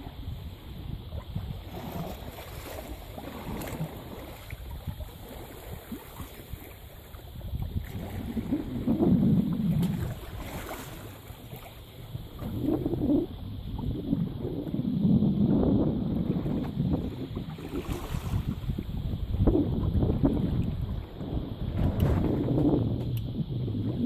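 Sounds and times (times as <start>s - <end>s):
water rushing along a hull: 0.0s - 24.0s
wind rumbling on microphone: 0.0s - 24.0s.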